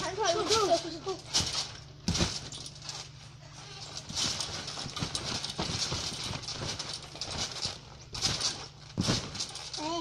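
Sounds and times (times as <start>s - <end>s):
thuds on trampoline mat: 0.0s - 3.1s, 3.7s - 10.0s.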